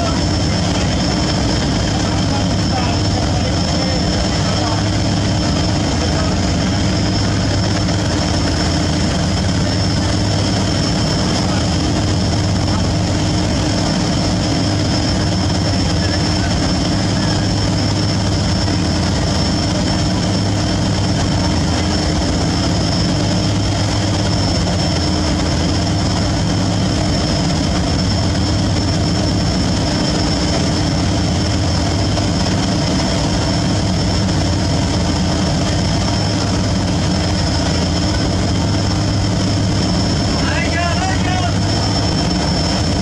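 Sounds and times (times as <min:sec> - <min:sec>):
boat diesel engines droning: 0:00.0 - 0:43.0.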